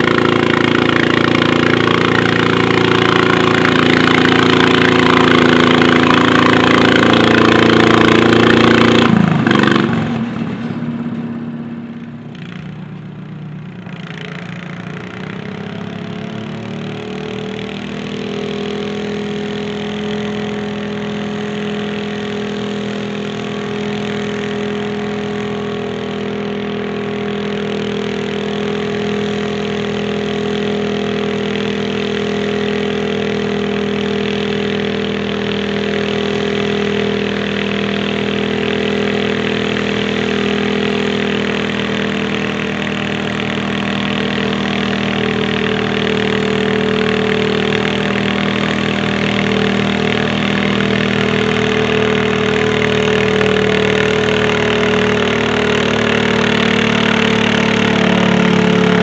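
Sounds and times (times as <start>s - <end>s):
garden tractor engine under load: 0.0s - 59.0s.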